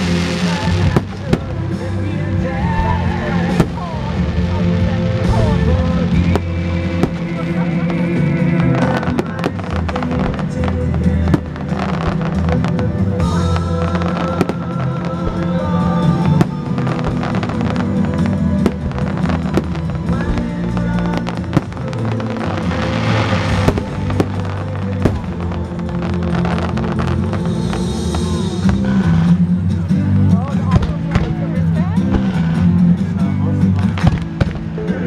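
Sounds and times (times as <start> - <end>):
fireworks bangs and crackles: 0.0 - 35.0
loud music: 0.0 - 35.0.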